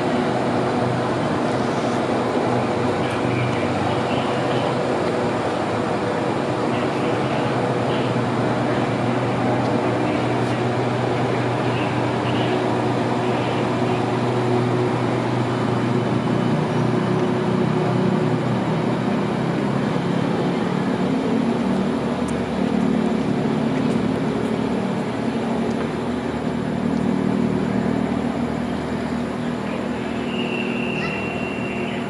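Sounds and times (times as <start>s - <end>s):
locomotive engine humming: 0.0s - 32.0s.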